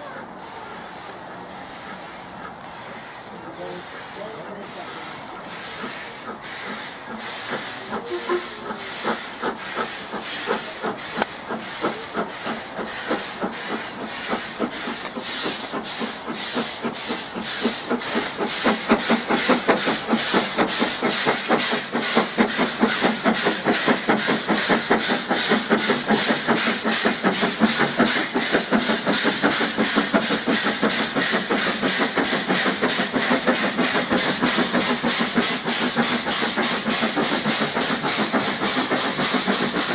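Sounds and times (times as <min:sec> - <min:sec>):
steam hiss: 0:00.0 - 0:39.9
steam locomotive chuffing: 0:00.0 - 0:39.9.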